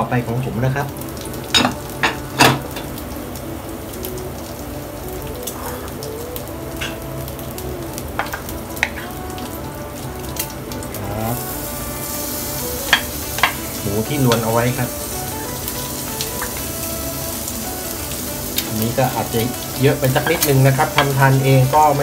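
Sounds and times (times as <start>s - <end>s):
eggs sizzling in a pan: 0.0s - 22.0s.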